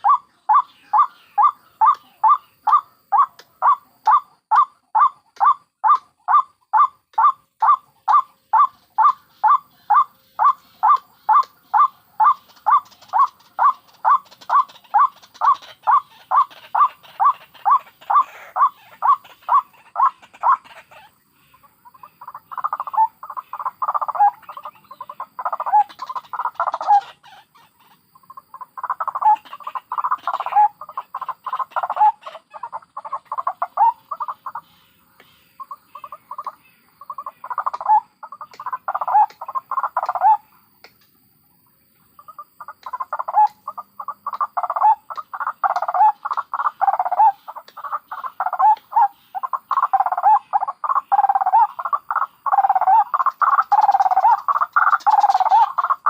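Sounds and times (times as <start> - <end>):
waterhens cackling: 0.0 - 40.5, 42.2 - 56.0.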